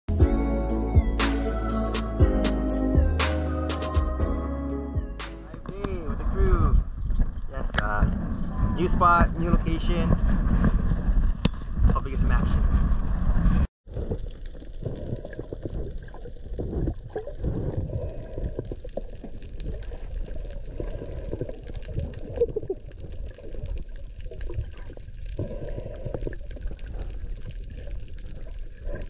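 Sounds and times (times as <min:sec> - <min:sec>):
muffled underwater rush of water: 0:05.5 - 0:29.0.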